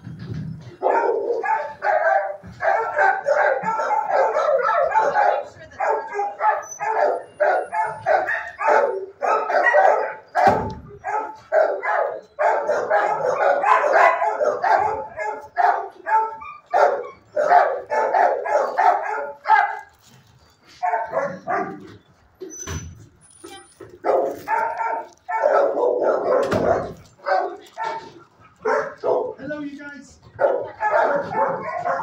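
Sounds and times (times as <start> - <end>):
dogs barking: 0.6 - 22.1, 23.8 - 32.0.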